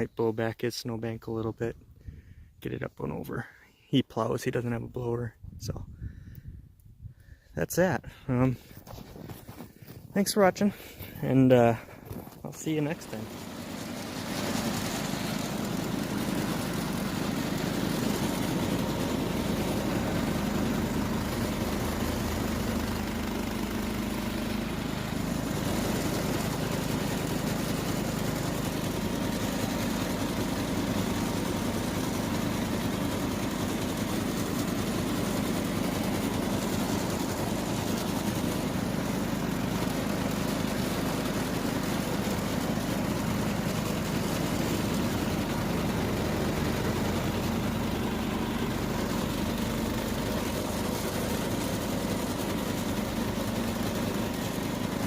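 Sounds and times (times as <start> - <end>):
garden tractor engine running: 0.0 - 5.2, 7.2 - 55.0.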